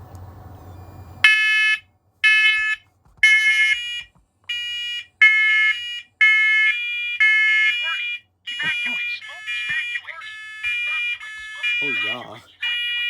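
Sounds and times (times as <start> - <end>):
smoke alarms beeping: 0.7 - 13.0.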